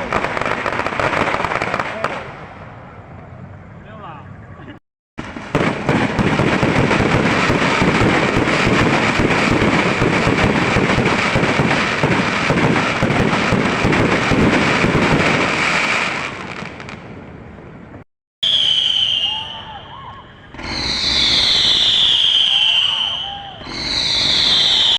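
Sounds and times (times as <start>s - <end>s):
fireworks bangs and crackles: 0.0s - 3.2s, 5.2s - 19.8s, 20.5s - 24.9s.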